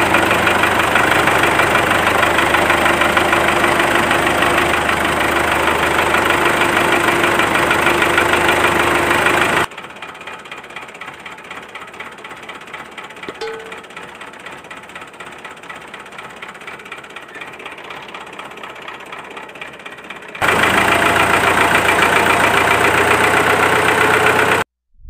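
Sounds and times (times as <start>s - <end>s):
model engine mechanical rattle: 0.1s - 24.6s.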